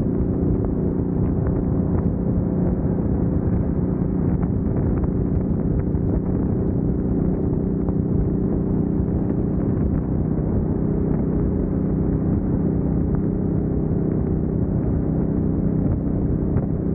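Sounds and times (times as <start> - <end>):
motorcycle engine cruising: 0.0 - 16.9
road and wind noise: 0.0 - 16.9.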